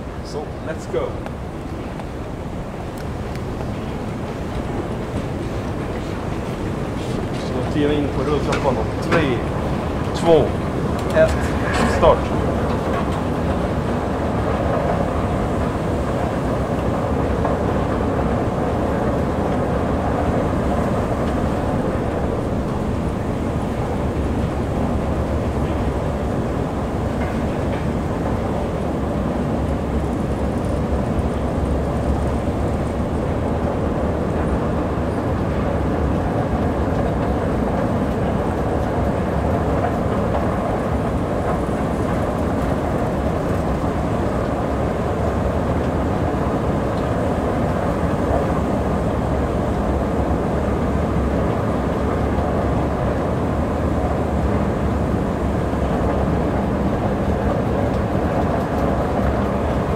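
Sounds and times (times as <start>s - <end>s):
escalator low rumble: 0.0s - 59.9s.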